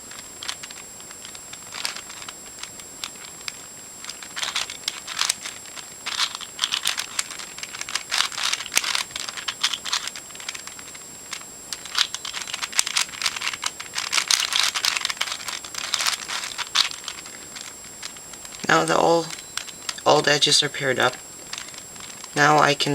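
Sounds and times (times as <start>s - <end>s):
plastic puzzle cube clicking: 0.1s - 22.8s.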